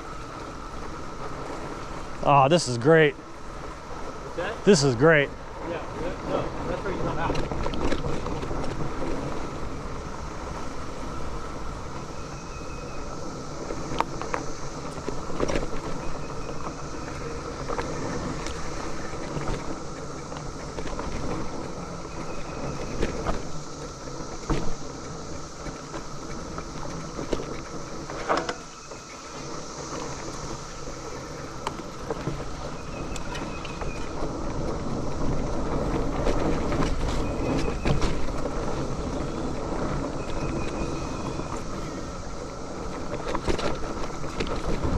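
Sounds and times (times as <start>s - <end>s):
cicadas buzzing: 0.0s - 44.9s
mountain bike rattling on dirt trail: 0.0s - 44.9s
wind rushing over microphone: 0.0s - 44.9s.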